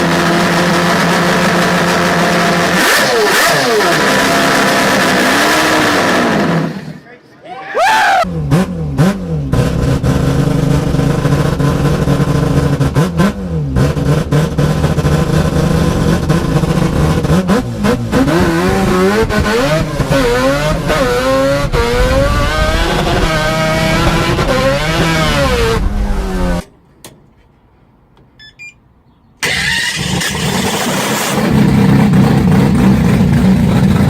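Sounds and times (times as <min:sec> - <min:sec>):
rotary engine idling and revving: 0:00.0 - 0:07.0, 0:08.2 - 0:26.7, 0:29.4 - 0:34.0.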